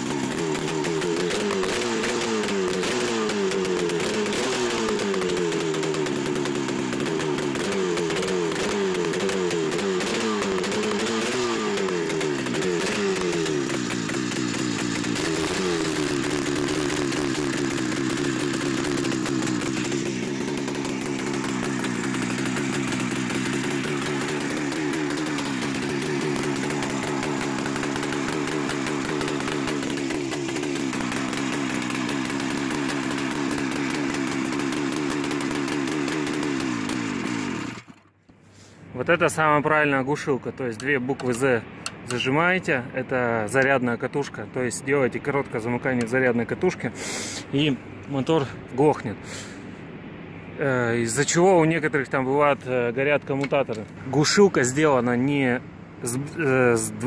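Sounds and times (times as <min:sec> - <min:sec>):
two-stroke engine revving and idling: 0:00.0 - 0:57.0.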